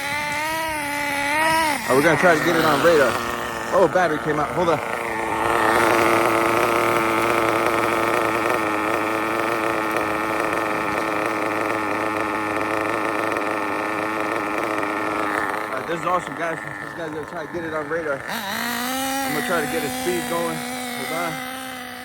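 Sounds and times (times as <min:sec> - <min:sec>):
model engine buzzing: 0:00.0 - 0:22.0.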